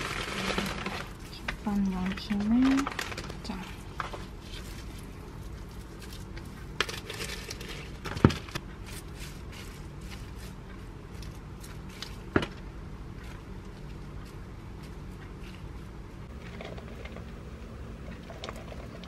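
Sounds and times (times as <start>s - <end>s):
crinkling and rustling: 0.0s - 17.4s.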